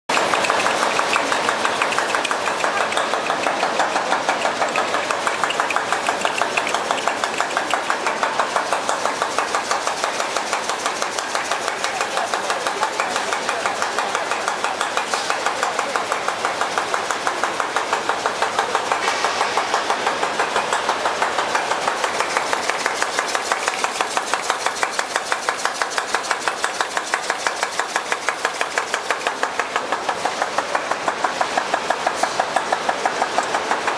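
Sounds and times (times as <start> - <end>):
molding machine clattering: 0.1 - 33.9.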